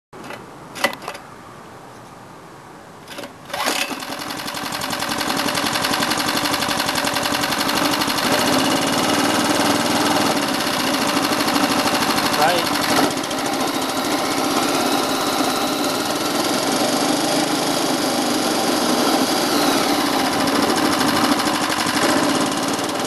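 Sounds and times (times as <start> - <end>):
generator engine running: 3.5 - 23.0.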